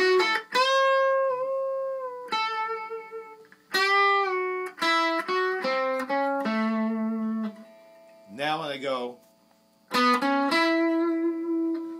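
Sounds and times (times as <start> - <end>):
electric guitar lead phrase: 0.0 - 9.2, 9.9 - 11.9.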